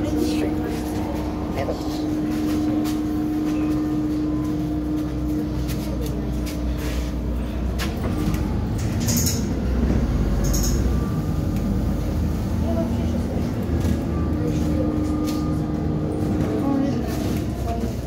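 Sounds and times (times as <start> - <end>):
bus engine rumble and whine: 0.0 - 18.0.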